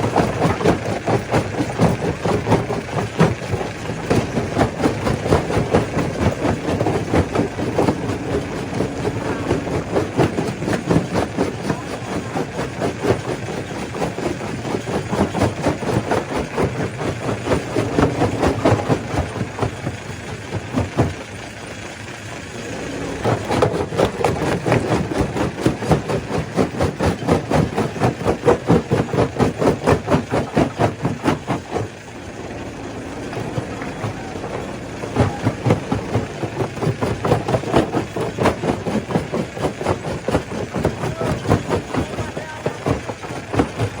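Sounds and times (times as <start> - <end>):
stone crusher crushing rock: 0.0 - 21.8, 22.8 - 44.0.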